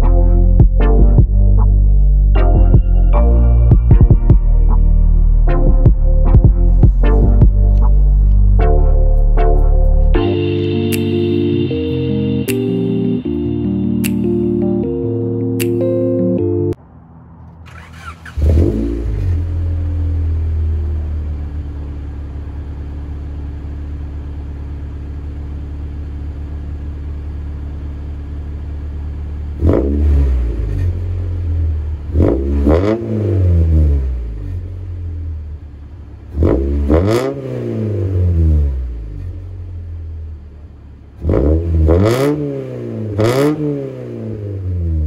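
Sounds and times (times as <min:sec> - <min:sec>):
car engine idling and revving: 0:00.0 - 0:15.9, 0:16.7 - 0:45.0.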